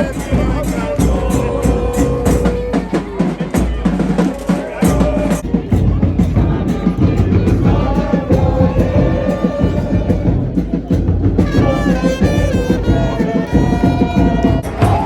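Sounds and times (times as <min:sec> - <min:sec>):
busy drum beat: 0:00.0 - 0:15.0
voices singing: 0:00.0 - 0:15.0.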